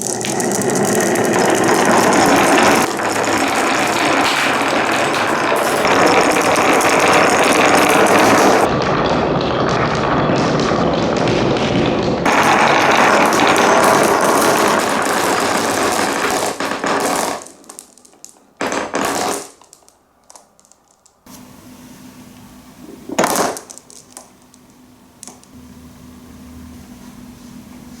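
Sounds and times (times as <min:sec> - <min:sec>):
marbles rattling on wooden run: 0:00.0 - 0:08.7, 0:09.6 - 0:21.3, 0:22.8 - 0:25.5.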